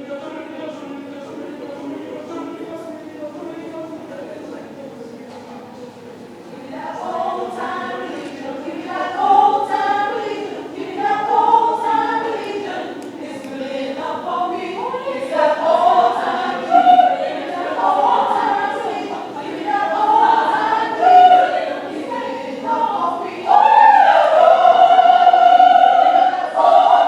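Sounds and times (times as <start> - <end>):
choir singing: 0.0 - 5.1, 6.2 - 27.0.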